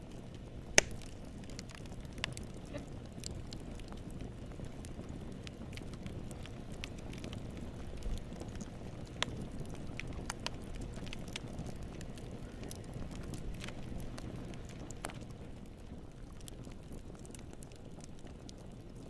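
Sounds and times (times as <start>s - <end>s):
sharp crackles and pops: 0.0s - 19.0s.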